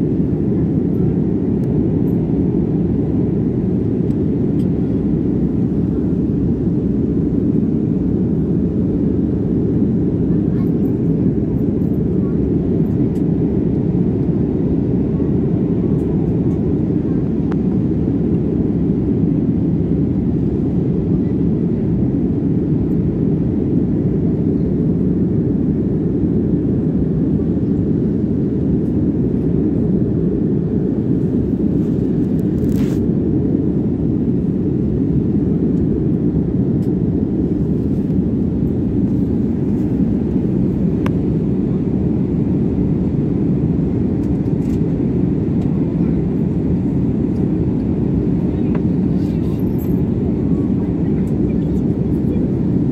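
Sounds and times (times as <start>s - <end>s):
airliner cabin jet rumble: 0.0s - 52.9s.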